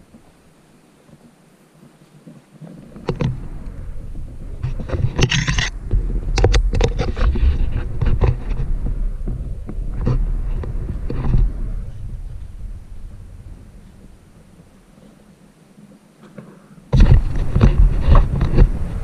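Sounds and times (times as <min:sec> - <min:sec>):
low rumble on microphone: 0:00.0 - 0:19.0
scraping over loose rock: 0:02.2 - 0:15.3, 0:16.2 - 0:19.0.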